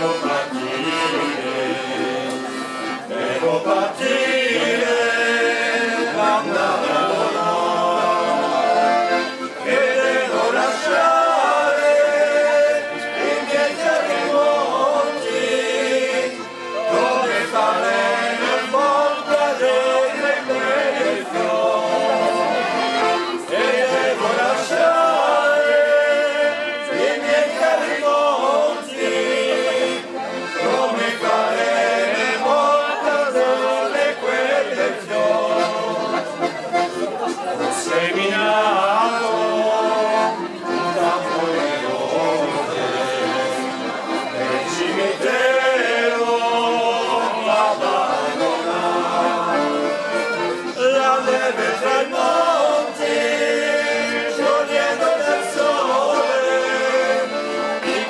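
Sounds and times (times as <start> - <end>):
men singing together: 0.0 - 22.5, 23.4 - 36.2, 37.7 - 43.8, 44.4 - 58.0
accordion: 0.0 - 58.0
fiddle: 0.0 - 58.0.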